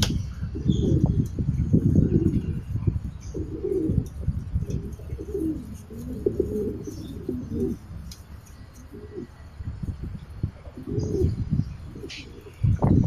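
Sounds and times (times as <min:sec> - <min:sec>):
low rumbling microphone noise: 0:00.0 - 0:13.0
pigeons cooing: 0:00.0 - 0:13.0.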